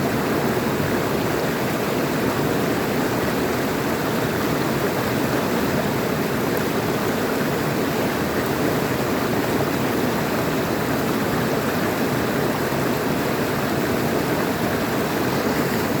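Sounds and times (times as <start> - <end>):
water running over stones: 0.1 - 16.0.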